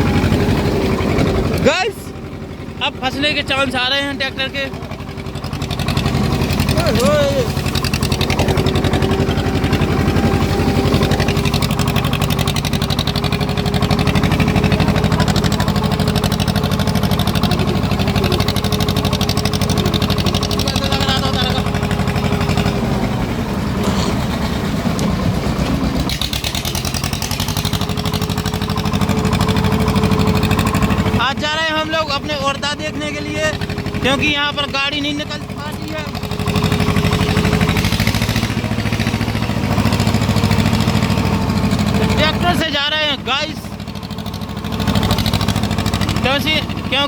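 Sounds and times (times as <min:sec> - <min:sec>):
tractor diesel engine chugging: 0:00.0 - 0:47.0.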